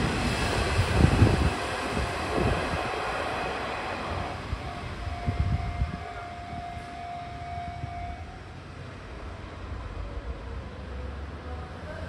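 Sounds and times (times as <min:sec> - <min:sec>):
electric train pulling out: 0:00.0 - 0:10.0.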